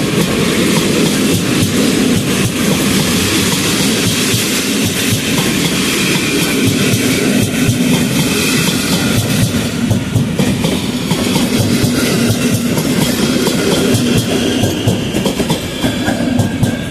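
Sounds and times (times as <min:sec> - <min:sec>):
train coaches rumbling past: 0:00.0 - 0:16.9
wheels clacking over rail joints: 0:00.0 - 0:16.9.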